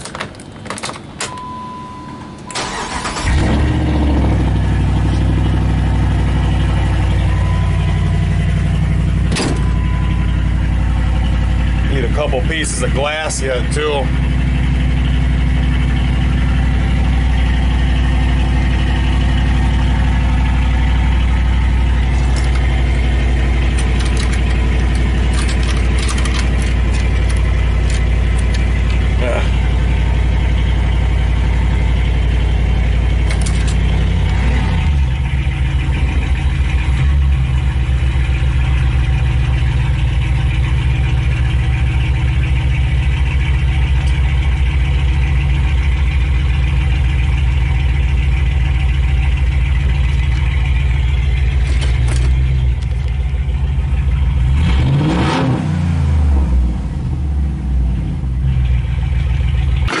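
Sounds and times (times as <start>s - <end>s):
loud car engine running: 0.0s - 60.0s.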